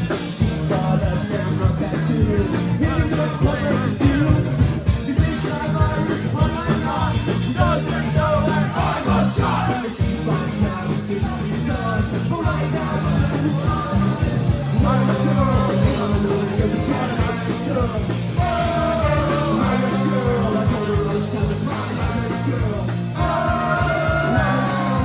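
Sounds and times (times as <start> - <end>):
live rock band with horns: 0.0 - 25.0
person singing: 0.1 - 25.0.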